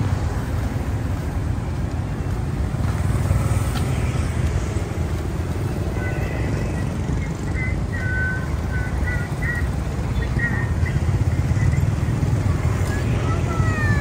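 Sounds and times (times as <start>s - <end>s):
city road traffic drone: 0.0s - 14.0s.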